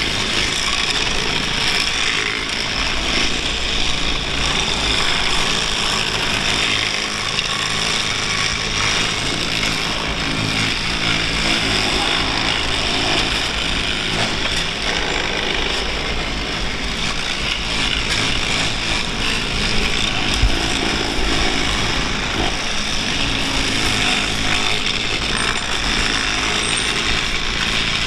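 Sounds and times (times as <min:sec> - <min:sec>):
track maintenance machinery running: 0:00.0 - 0:28.0.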